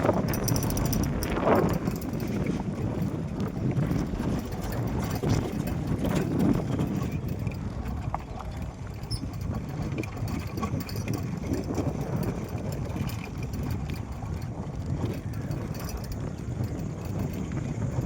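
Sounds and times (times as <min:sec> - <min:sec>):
ride rumbling: 0:00.0 - 0:18.0
wind buffeting microphone: 0:00.0 - 0:18.0.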